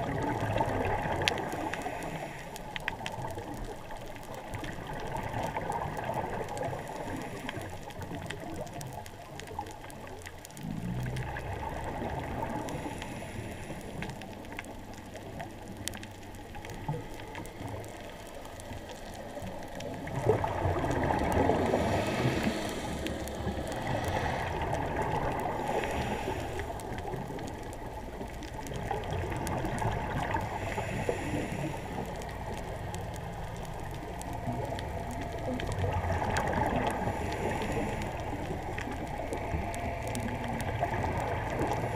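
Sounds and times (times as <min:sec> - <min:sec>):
muffled underwater water rush: 0:00.0 - 0:41.9.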